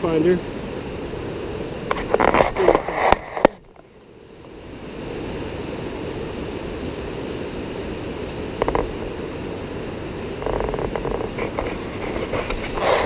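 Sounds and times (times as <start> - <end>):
river and waterfall rushing: 0.0 - 13.0.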